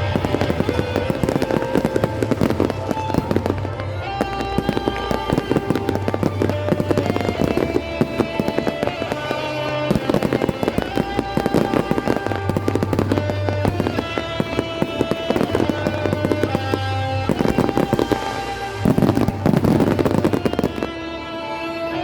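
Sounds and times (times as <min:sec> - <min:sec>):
fireworks bangs and crackles: 0:00.0 - 0:22.0
music with bass line: 0:00.0 - 0:22.0.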